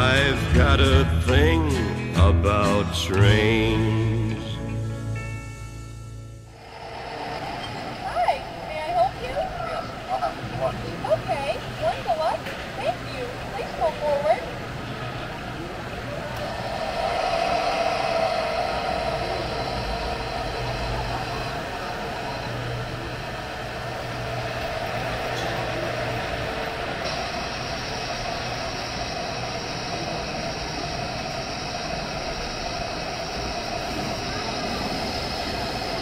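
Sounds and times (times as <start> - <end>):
model trains rumbling on track: 6.5 - 36.0.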